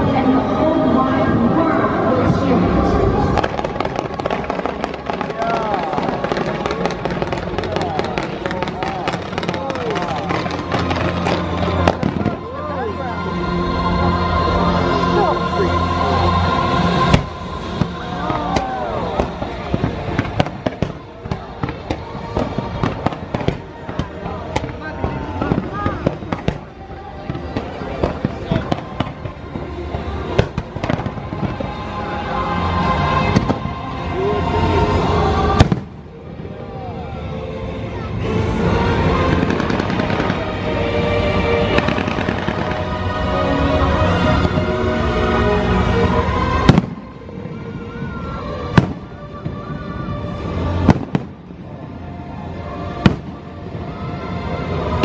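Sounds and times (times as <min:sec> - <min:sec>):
loud show music: 0:00.0 - 0:55.0
fireworks bangs: 0:02.2 - 0:12.7, 0:16.8 - 0:34.0, 0:34.8 - 0:36.4, 0:38.5 - 0:45.2, 0:46.1 - 0:55.0.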